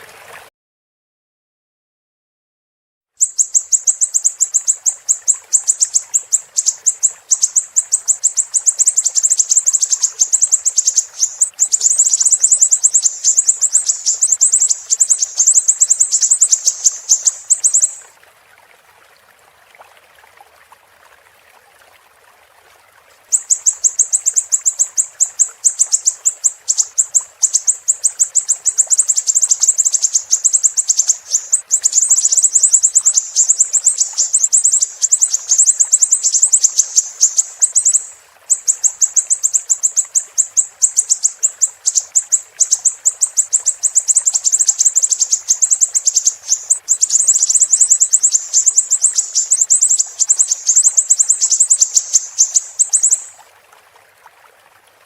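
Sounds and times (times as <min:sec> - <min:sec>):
faint flowing water: 0:00.0 - 0:00.5, 0:03.1 - 0:55.0
bird trilling: 0:03.2 - 0:18.1, 0:23.3 - 0:53.4.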